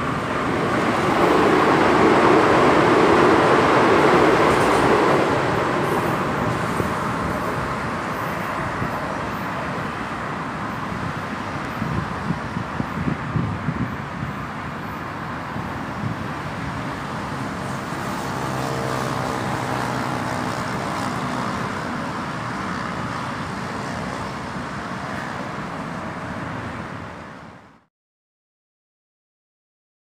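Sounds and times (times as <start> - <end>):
traffic rumble: 0.0 - 27.6
distant metro train approaching: 0.0 - 27.9.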